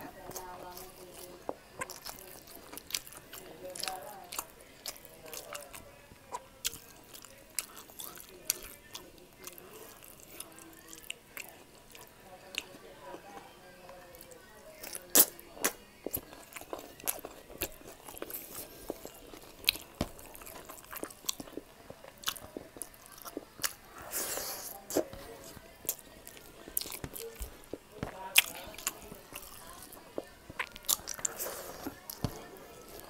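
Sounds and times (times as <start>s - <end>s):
man chewing food: 0.0s - 33.0s.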